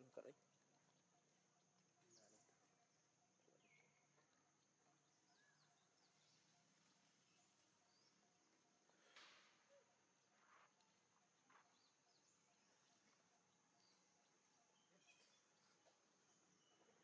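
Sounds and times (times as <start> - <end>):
faint chirps: 0.0 - 17.0.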